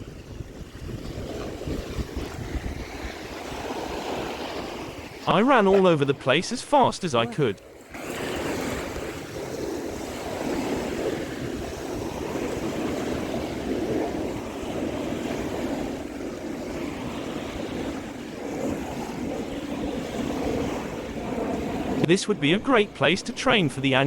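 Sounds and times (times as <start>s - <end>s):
wind buffeting microphone: 0.0s - 6.2s, 7.6s - 24.0s
ocean surf washing: 0.0s - 24.0s.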